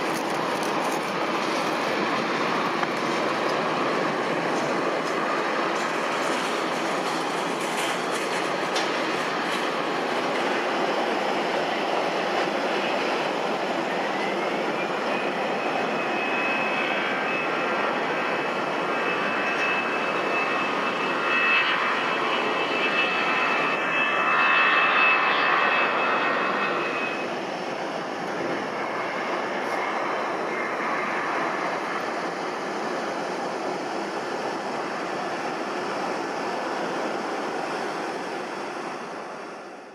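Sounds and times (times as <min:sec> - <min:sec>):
jet engines roaring with whine: 0:00.0 - 0:39.9.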